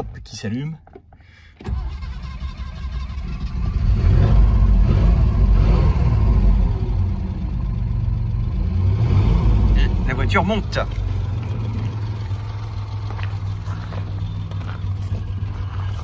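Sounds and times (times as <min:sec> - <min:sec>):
car engine starting and running: 0:00.0 - 0:16.0.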